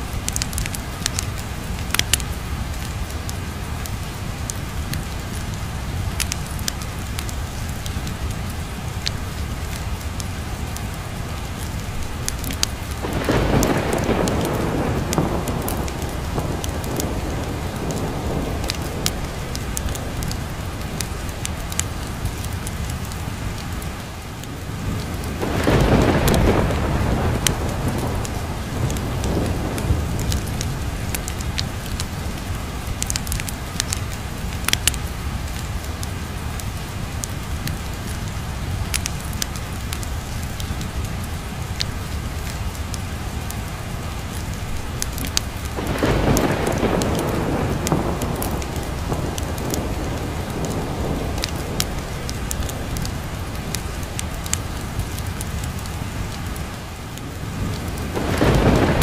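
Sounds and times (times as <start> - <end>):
thunder rumbling: 0.0 - 43.5, 44.3 - 59.0
heavy rain: 0.0 - 59.0
wood fire crackling: 0.0 - 59.0.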